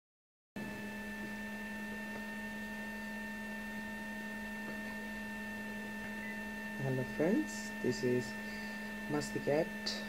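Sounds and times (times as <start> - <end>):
electrical hum with whine: 0.6 - 10.0.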